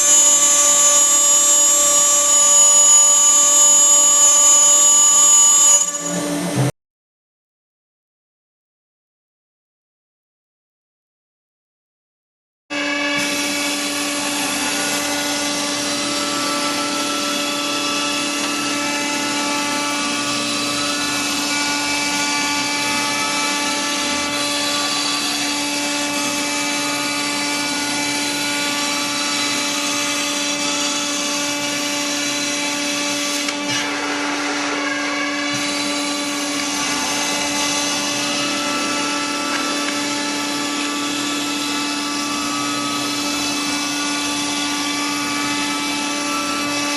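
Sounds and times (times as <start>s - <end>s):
router spindle whining while milling: 0.0s - 6.7s, 12.8s - 46.9s.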